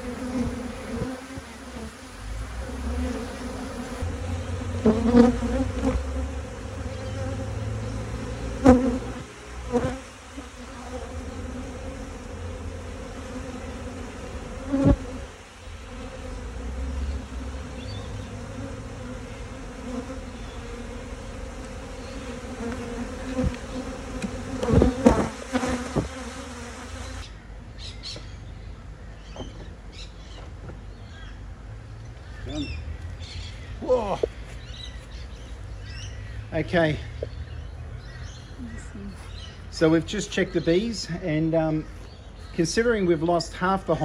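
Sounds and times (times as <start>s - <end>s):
honeybees humming: 0.0s - 44.0s.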